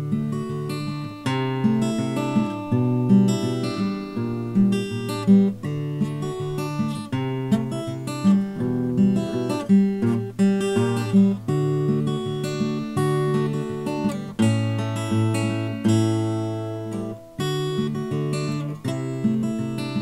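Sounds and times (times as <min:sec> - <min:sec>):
acoustic guitar picking and strumming: 0:00.0 - 0:20.0.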